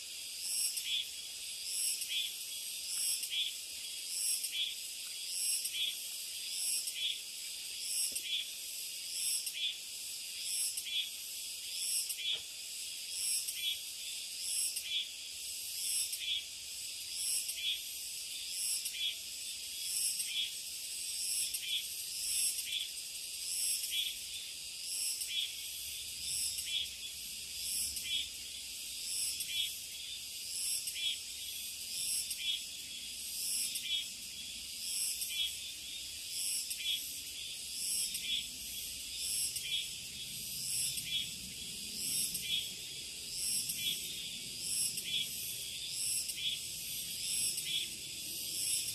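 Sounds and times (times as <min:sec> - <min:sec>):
chorus of insects: 0:00.0 - 0:48.9.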